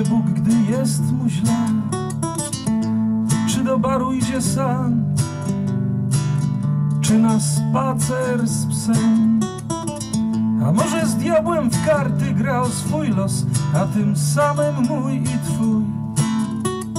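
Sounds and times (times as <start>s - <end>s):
nylon-string acoustic guitar: 0.0s - 16.9s.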